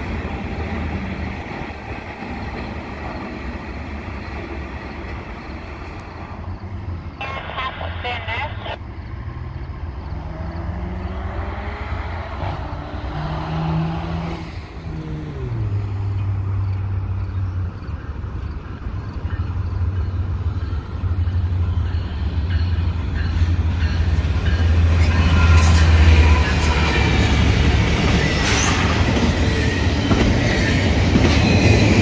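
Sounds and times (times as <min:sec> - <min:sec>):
diesel locomotive engine drone: 0:00.0 - 0:32.0
train rumbling on rails: 0:00.0 - 0:32.0.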